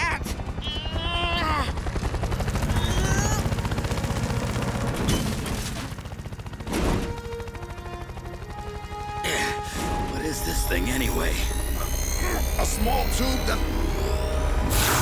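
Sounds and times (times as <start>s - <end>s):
cartoon helicopter rotor chopping: 0.0s - 15.0s.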